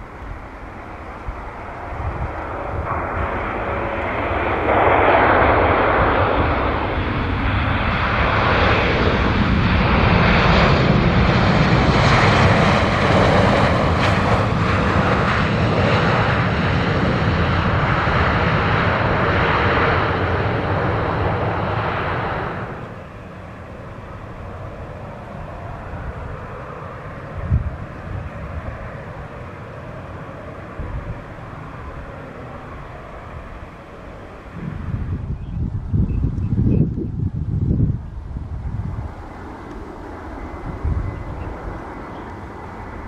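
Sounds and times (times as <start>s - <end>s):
jet engines on landing roll: 0.0s - 43.0s.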